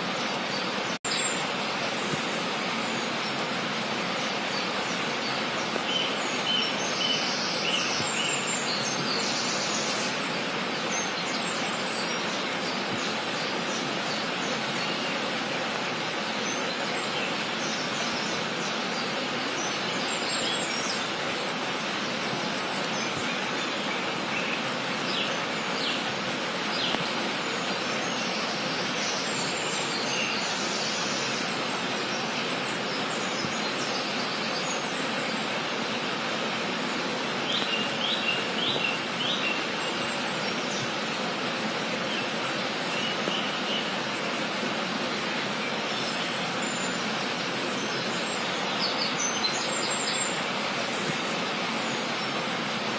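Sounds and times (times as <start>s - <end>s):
steady rushing outdoor noise: 0.0s - 52.9s.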